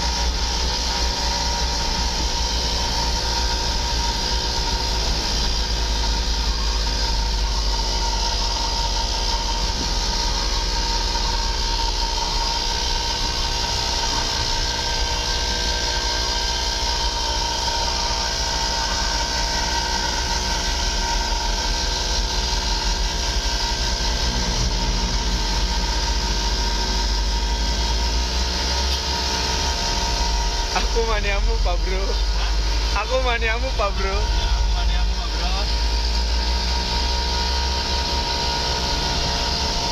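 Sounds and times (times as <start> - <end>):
steady whine: 0.0 - 39.9
vehicle engine and road noise: 0.0 - 39.9.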